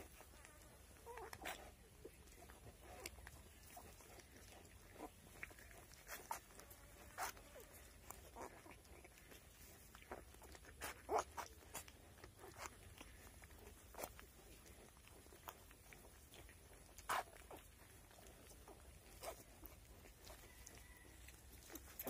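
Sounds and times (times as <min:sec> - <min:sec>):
pigs grunting and squeaking: 0:00.0 - 0:22.0.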